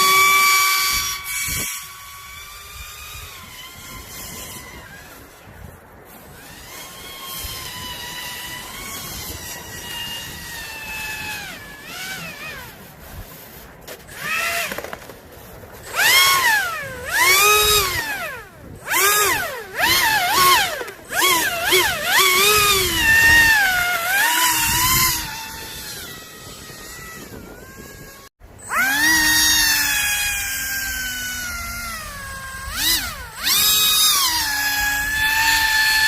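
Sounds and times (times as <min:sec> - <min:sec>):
electric motor and propeller whining: 0:00.0 - 0:36.0.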